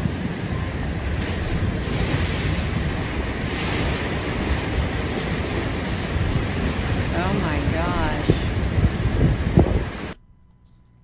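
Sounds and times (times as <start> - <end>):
surf breaking over a deck: 0.0 - 10.2
wind buffeting the microphone: 0.0 - 10.2.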